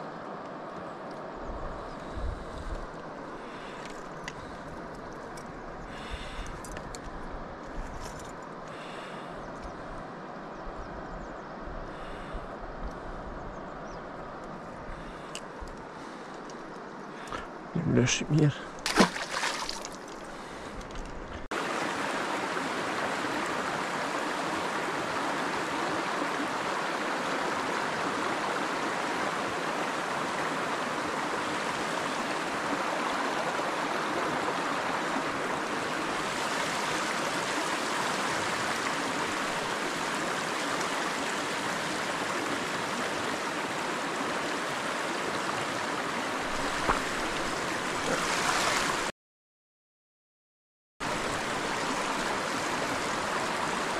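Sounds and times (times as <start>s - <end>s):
rushing river water: 0.0s - 49.1s, 51.0s - 53.9s.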